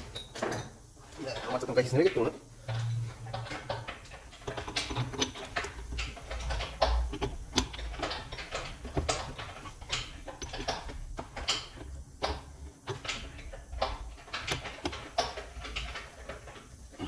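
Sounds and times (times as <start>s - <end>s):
mechanical parts clicking and knocking: 0.0s - 17.0s.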